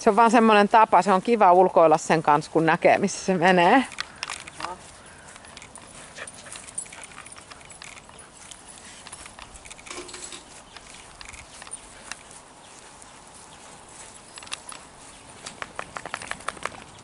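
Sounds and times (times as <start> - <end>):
dogs moving on grass: 0.0 - 17.0.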